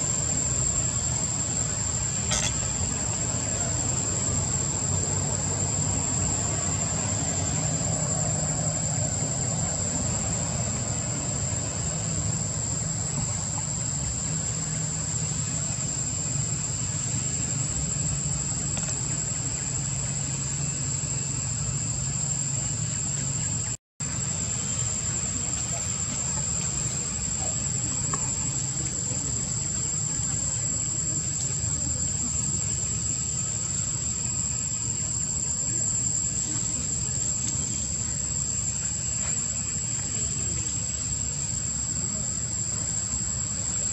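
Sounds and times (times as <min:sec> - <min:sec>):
high-pitched insect drone: 0:00.0 - 0:43.9.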